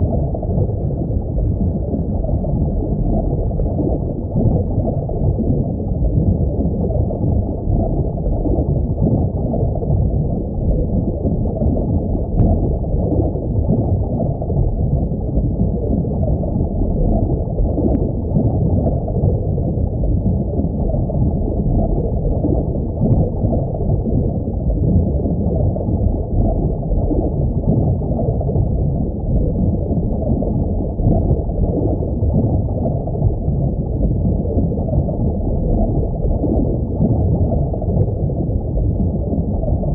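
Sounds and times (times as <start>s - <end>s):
underwater low rumbling wash: 0.0s - 39.9s.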